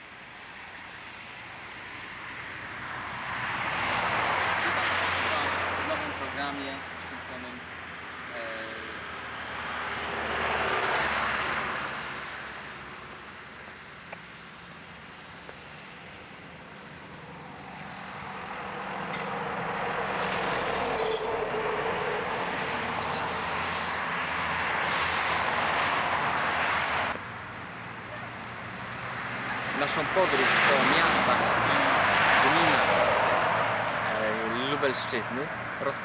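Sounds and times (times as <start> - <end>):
cars passing on road: 0.0 - 36.0
vehicle hum: 0.0 - 36.0.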